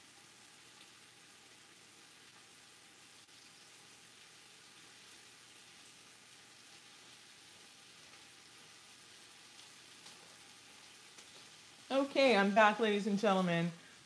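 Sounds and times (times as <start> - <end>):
onions sizzling in a pan: 0.0 - 14.0.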